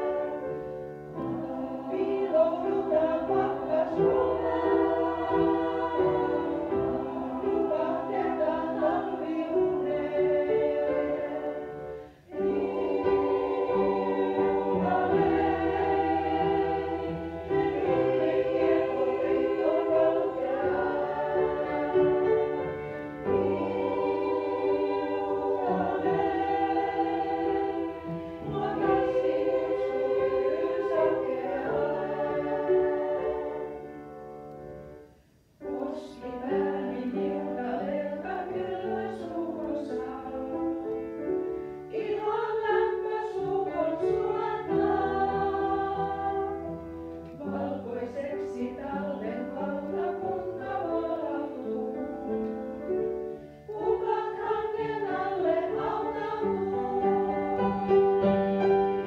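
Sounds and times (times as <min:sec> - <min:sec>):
choir singing: 0:00.0 - 0:59.0
piano accompaniment: 0:00.0 - 0:59.0.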